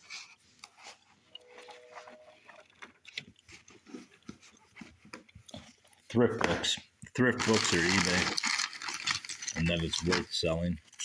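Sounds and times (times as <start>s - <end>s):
book pages flipping: 0.0s - 11.0s.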